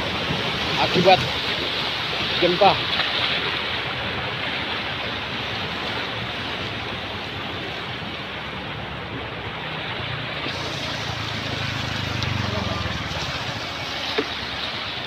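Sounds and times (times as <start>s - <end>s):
seawater rushing and churning: 0.0s - 15.0s.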